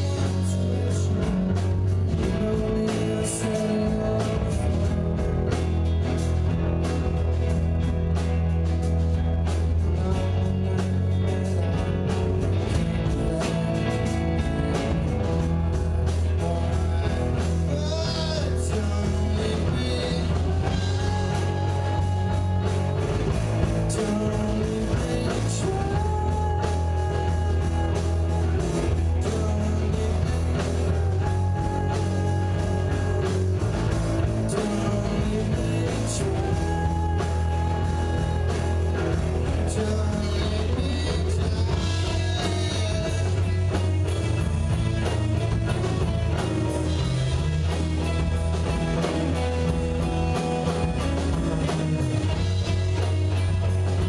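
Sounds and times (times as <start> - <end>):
drum kit beating: 0.0 - 54.0
electric guitars: 0.0 - 54.0.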